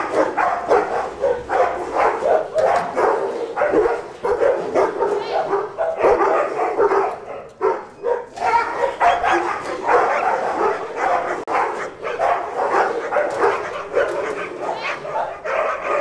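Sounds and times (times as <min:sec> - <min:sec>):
dogs barking over speakers: 0:00.0 - 0:16.0.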